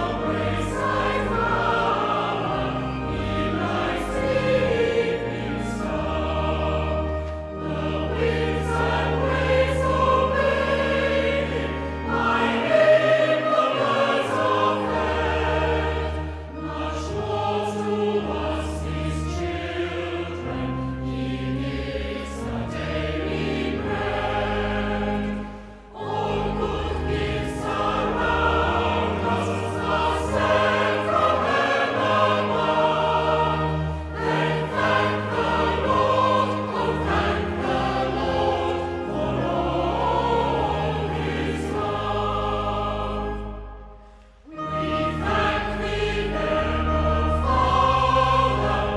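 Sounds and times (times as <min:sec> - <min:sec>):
choir singing a hymn: 0:00.0 - 0:48.9
sustained low accompanying notes: 0:00.0 - 0:48.9.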